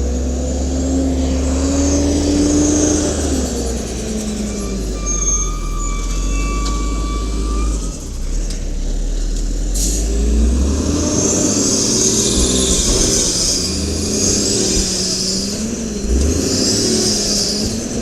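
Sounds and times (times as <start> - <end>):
truck engine running under load: 0.0 - 18.0.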